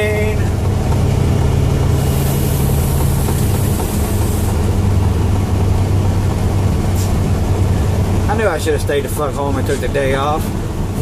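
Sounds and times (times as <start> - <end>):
truck engine deep hum: 0.0 - 11.0.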